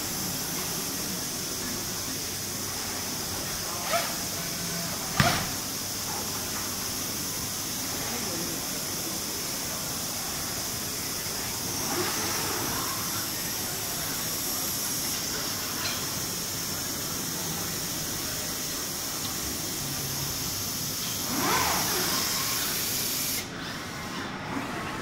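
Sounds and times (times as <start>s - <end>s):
machinery hiss: 0.0s - 23.5s.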